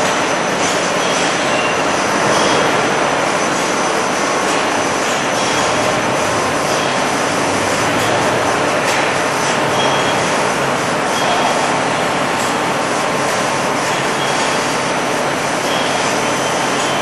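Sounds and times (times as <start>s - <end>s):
conveyors and handling machinery running: 0.0s - 17.0s.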